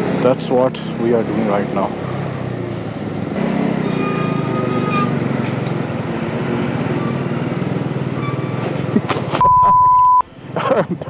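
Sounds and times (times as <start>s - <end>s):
motorcycle engine running at low speed: 0.0s - 9.4s.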